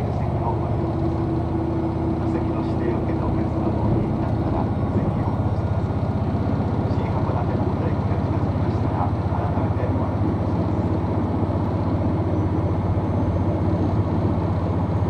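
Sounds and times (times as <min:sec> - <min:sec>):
train diesel engine drone: 0:00.0 - 0:15.0.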